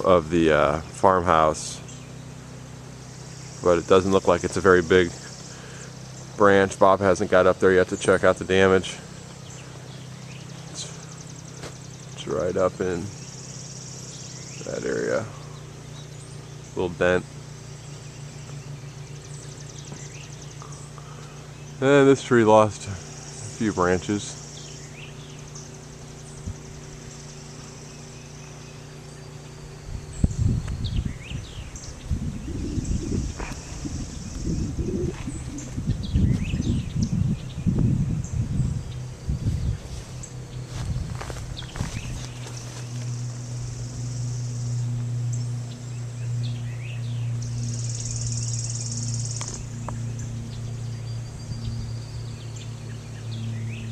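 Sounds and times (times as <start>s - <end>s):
birds chirping: 0.0s - 53.9s
insects trilling: 0.0s - 53.9s
loud low rumbling on microphone: 0.0s - 53.9s
low mechanical hum: 0.0s - 53.9s.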